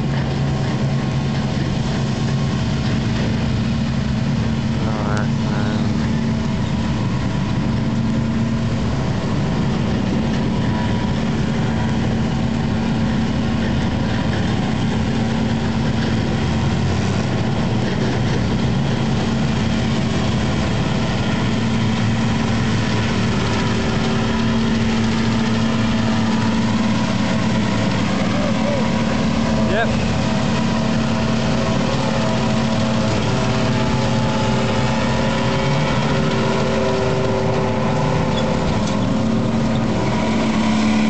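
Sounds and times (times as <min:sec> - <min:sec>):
tractor engine droning: 0:00.0 - 0:41.0.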